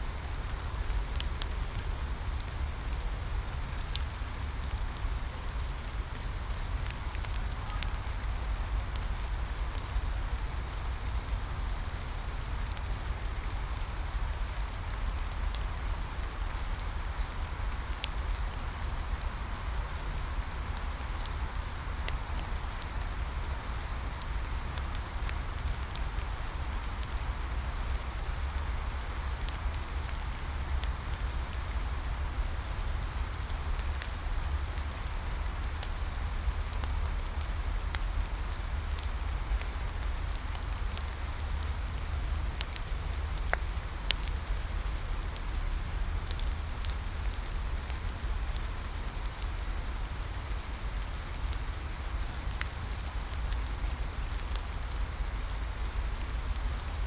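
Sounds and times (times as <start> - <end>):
bonfire crackling and popping: 0.0 - 57.0
rain falling: 0.0 - 57.0.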